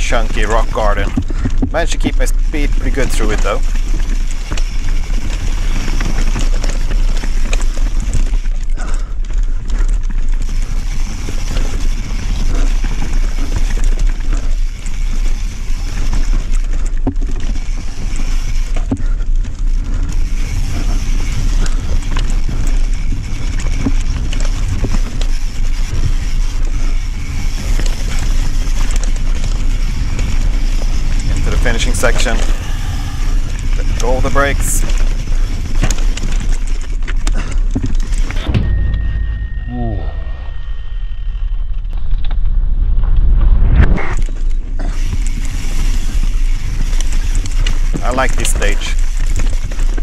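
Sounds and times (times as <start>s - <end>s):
bike rattling over ground: 0.0s - 50.0s
wind rush on microphone: 0.0s - 50.0s.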